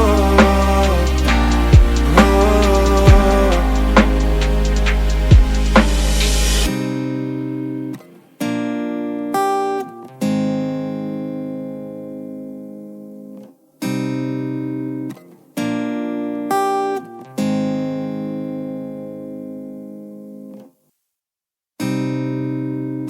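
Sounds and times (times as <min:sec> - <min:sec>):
guitar chords ringing out: 0:00.0 - 0:13.4, 0:14.0 - 0:20.5.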